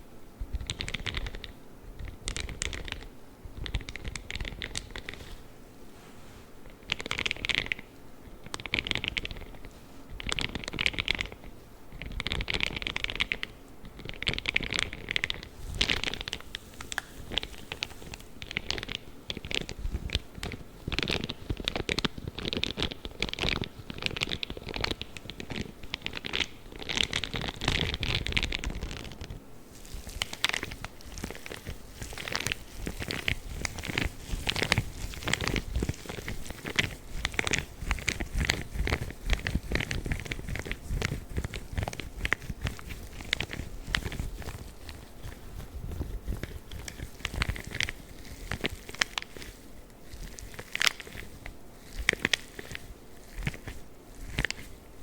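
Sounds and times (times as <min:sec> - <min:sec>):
crackly clicks: 0:00.5 - 0:05.4, 0:06.7 - 0:55.0
gloves scratching and rubbing: 0:00.6 - 0:55.0.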